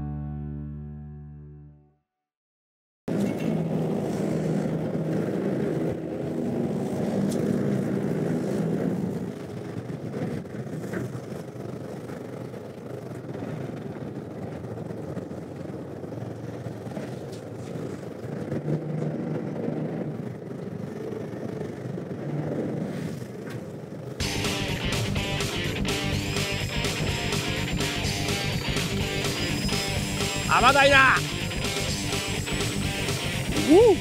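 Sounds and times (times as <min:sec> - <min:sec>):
wind: 0:03.1 - 0:34.0
boat engine rumbling: 0:03.4 - 0:22.8, 0:23.8 - 0:34.0.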